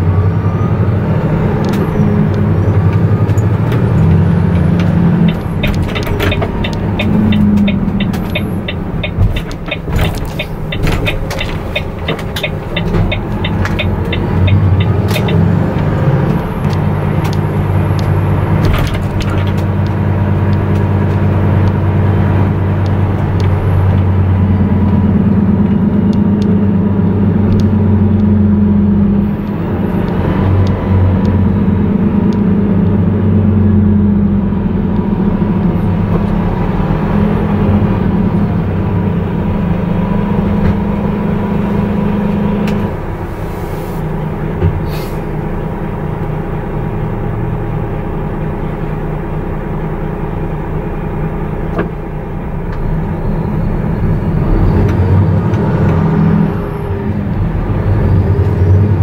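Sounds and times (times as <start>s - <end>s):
diesel truck engine drone: 0.0s - 59.0s.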